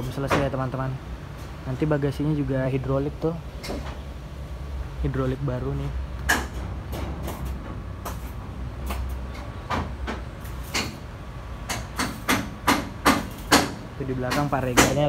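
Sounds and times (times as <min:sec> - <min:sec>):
low workshop rumble: 0:00.0 - 0:15.0.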